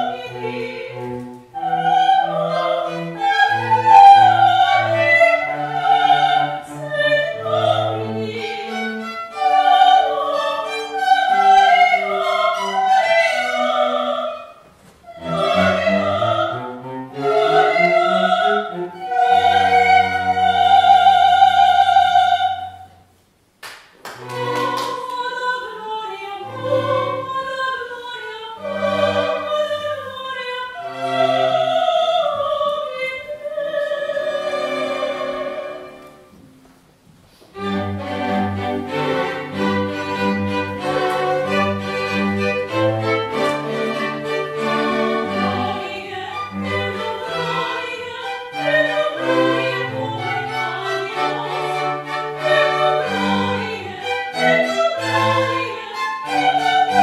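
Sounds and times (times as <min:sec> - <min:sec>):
string ensemble playing: 0:00.0 - 0:22.8, 0:24.1 - 0:36.7, 0:37.5 - 0:57.0
soprano singing: 0:00.0 - 0:23.0, 0:24.2 - 0:36.6, 0:37.6 - 0:57.0.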